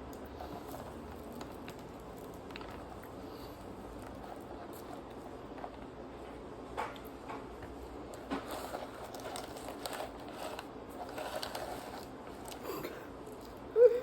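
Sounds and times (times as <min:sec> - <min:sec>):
room hum: 0:00.0 - 0:14.0
light taps and crinkles: 0:00.1 - 0:12.6.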